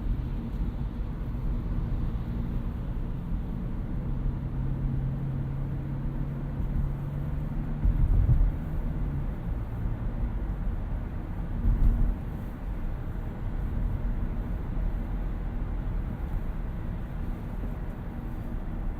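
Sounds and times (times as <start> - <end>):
car engine hum: 0.0 - 18.9
road rumble: 0.0 - 18.9.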